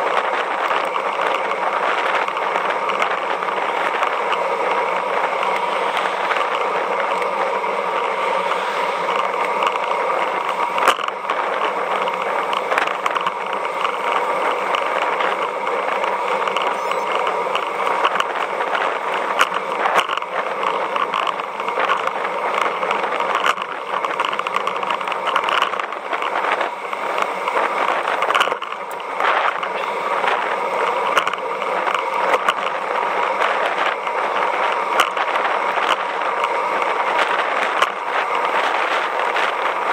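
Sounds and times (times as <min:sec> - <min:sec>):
bicycle road noise and wind: 0:00.0 - 0:39.9.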